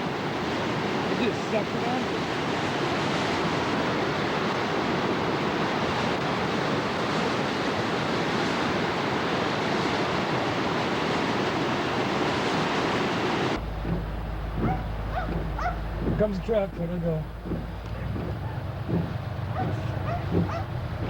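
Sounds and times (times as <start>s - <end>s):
river floodwater rushing: 0.0s - 21.0s.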